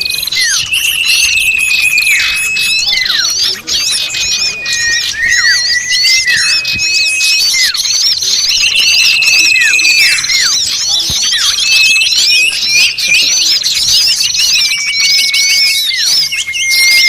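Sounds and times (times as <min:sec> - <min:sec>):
bird trill: 0:00.0 - 0:17.0
bird whistles: 0:00.0 - 0:17.0
small birds chirping: 0:00.0 - 0:17.0.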